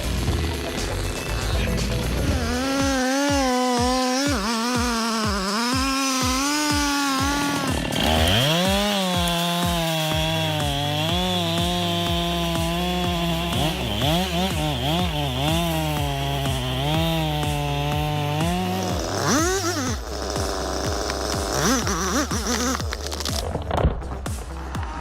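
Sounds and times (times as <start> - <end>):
chainsaw cutting through wood: 0.0 - 25.0.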